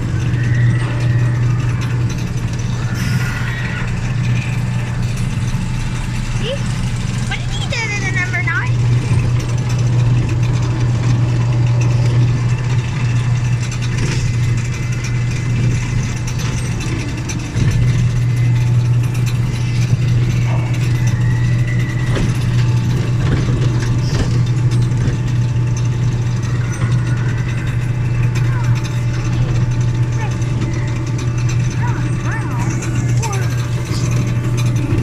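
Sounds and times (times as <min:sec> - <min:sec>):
mechanical clicking and rattling: 0:00.0 - 0:35.0
ride train running: 0:00.0 - 0:35.0.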